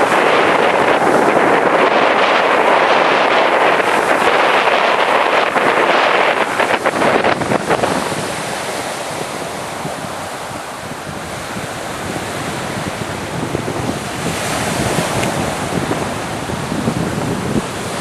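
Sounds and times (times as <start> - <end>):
surf washing onto beach: 0.0 - 18.0
wind buffeting microphone: 0.0 - 18.0.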